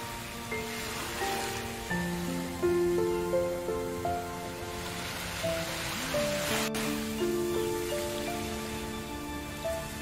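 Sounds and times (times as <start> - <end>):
slow relaxation music: 0.0 - 10.0
water hissing: 0.0 - 10.0.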